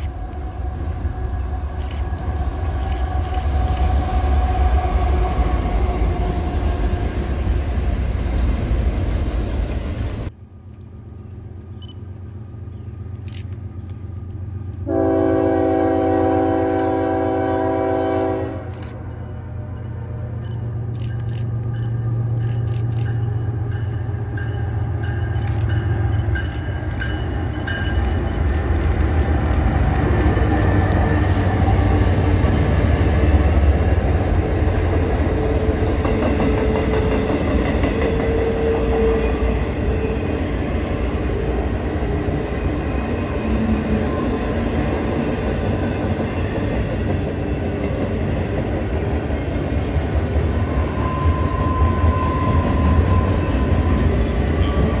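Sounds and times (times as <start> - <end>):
locomotive drone: 0.0 - 55.0.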